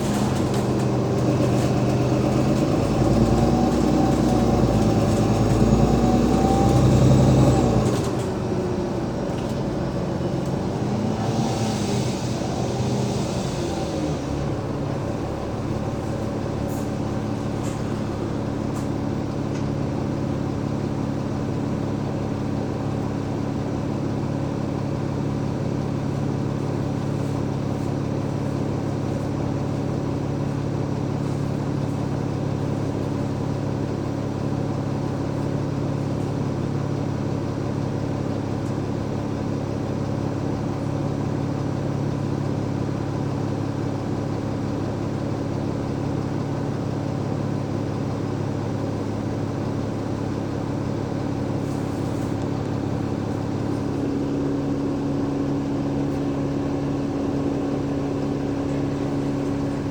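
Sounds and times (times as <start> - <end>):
diesel bus engine humming: 0.0 - 59.9.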